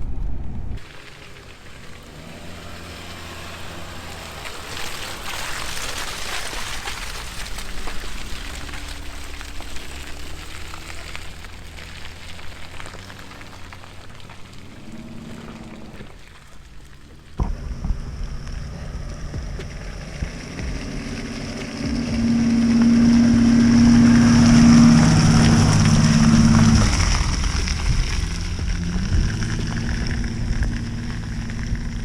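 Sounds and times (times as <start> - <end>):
vehicle engine running: 0.0 - 32.0
rain hissing: 0.8 - 32.0.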